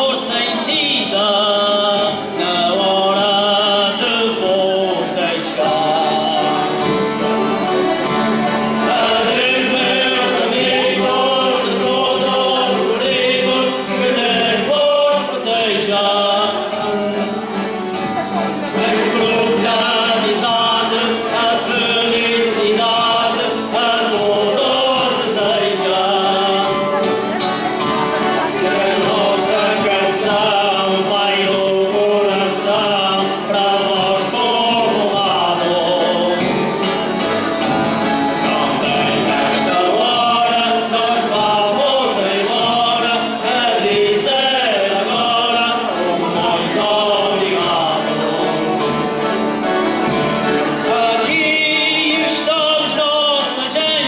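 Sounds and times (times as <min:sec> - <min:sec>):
accordion: 0:00.0 - 0:54.0
group singing together: 0:00.0 - 0:54.0
plucked guitar: 0:00.0 - 0:54.0.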